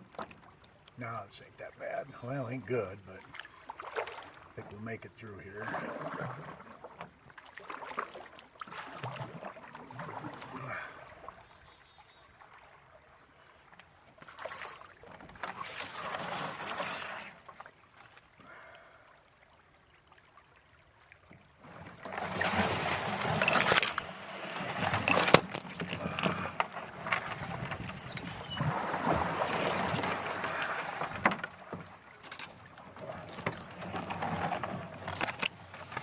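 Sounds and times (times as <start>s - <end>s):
paddle splashing in water: 1.8s - 36.0s.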